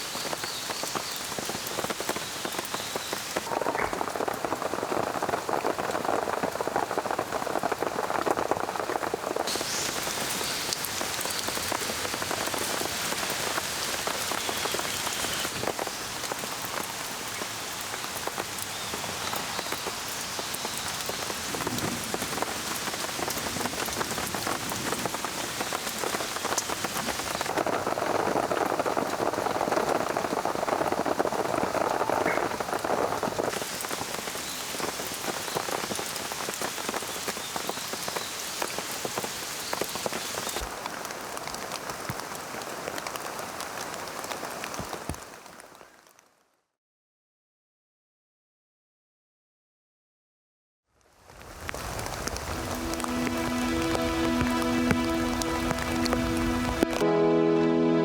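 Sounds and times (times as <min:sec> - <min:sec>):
steady rain falling: 0:00.0 - 0:46.4, 0:51.0 - 0:57.1.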